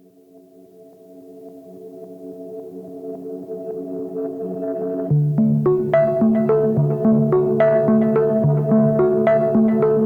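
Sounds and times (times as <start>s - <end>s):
ambient synth pad chords: 1.6s - 10.0s.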